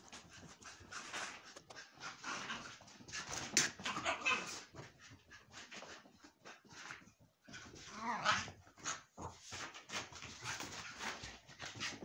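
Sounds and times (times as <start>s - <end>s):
dogs panting: 0.0s - 12.0s.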